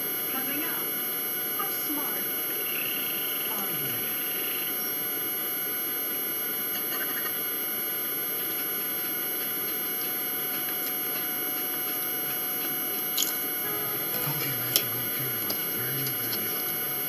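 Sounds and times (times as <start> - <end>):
room hum and hiss: 0.0 - 17.0.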